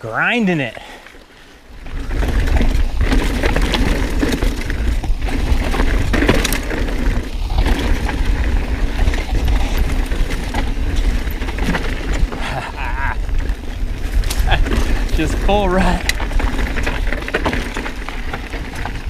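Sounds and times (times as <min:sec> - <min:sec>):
bike rattling: 0:00.0 - 0:19.0
tyres crunching over stones: 0:00.4 - 0:19.0
wind rumble on microphone: 0:01.7 - 0:19.0.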